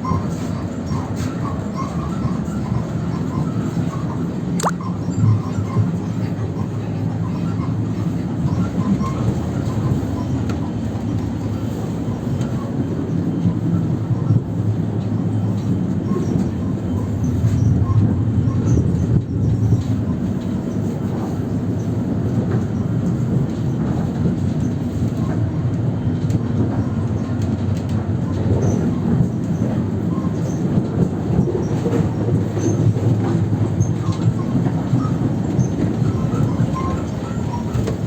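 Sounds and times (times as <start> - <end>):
electric train rumbling: 0.0 - 38.0
train squeaks and creaks: 0.0 - 38.0.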